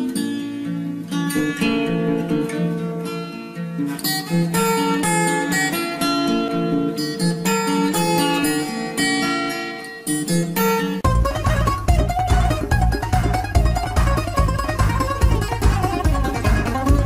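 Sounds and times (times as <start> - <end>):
plucked acoustic guitar melody: 0.0 - 17.0.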